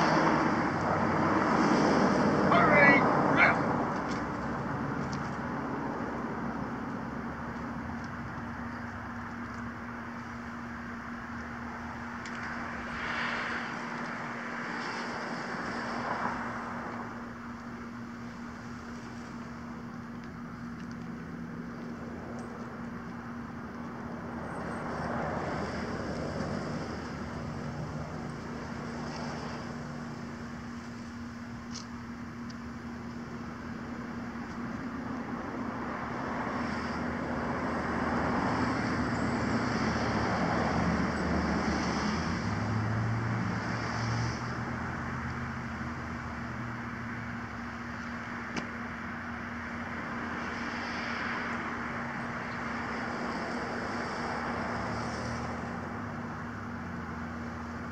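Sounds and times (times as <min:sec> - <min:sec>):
low engine drone: 0:00.0 - 0:57.9
road traffic hum: 0:00.0 - 0:57.9
vehicles passing: 0:00.0 - 0:57.9.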